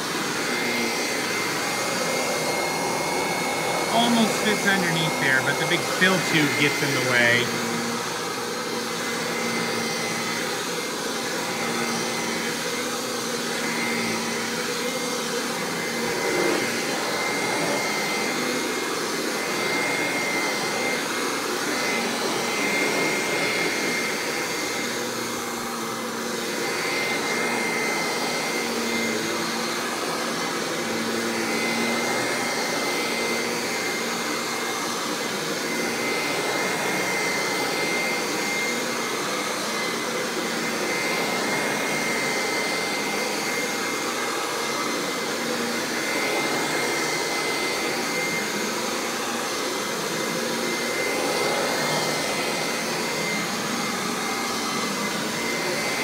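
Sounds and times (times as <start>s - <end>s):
upright vacuum whining: 0.0s - 56.0s.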